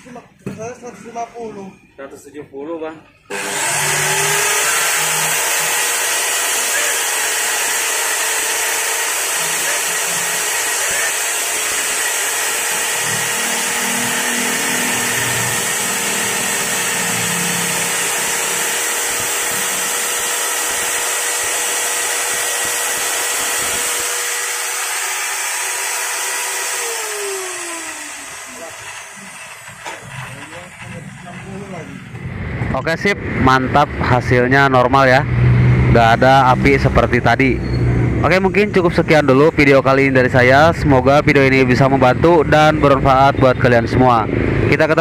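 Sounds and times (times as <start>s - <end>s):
circular saw motor whining: 3.3s - 45.0s.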